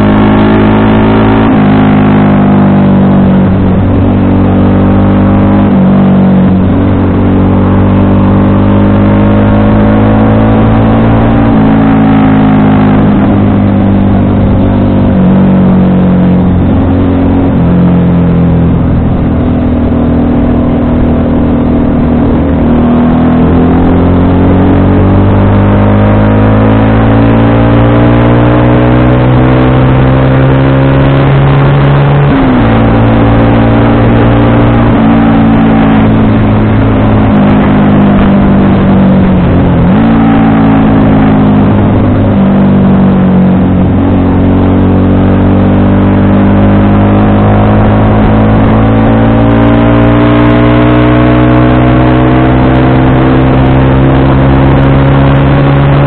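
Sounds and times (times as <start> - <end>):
motorcycle engine under way: 0.0 - 56.0.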